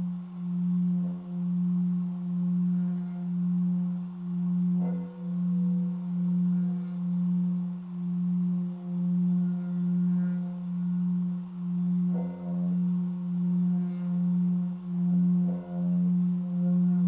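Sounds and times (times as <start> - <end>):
singing bowl ringing hum: 0.0 - 17.0
singing bowl struck with mallet: 0.0 - 17.0.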